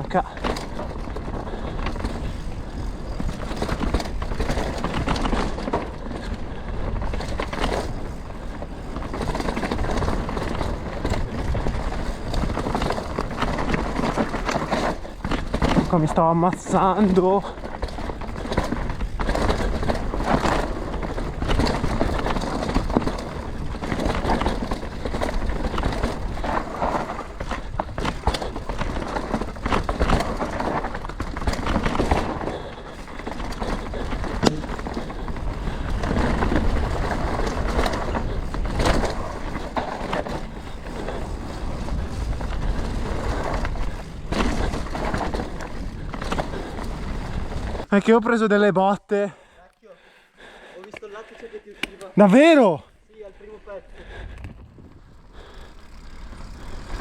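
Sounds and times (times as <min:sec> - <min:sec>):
bike tyres on rock and dirt: 0:00.0 - 0:57.0.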